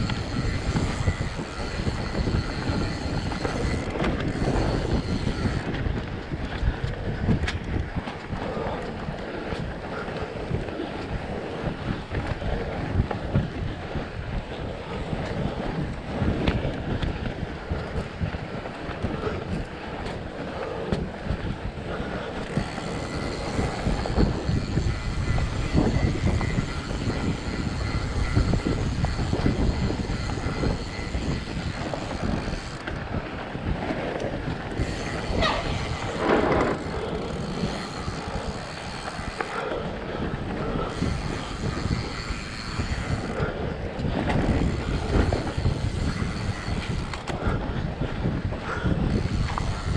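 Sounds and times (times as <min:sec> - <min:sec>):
bike rattling and knocking: 0:00.0 - 0:49.9.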